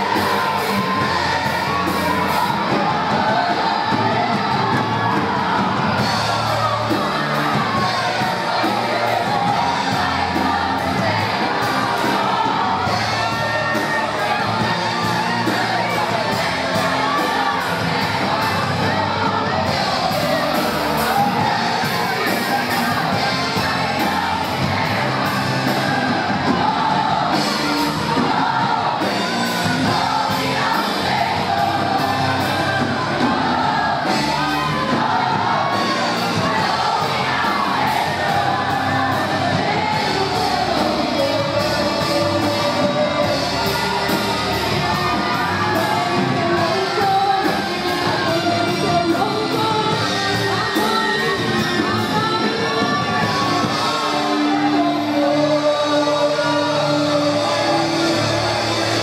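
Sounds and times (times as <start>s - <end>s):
band playing with steady beat: 0.0s - 59.0s
women's choir singing gospel: 0.0s - 59.0s.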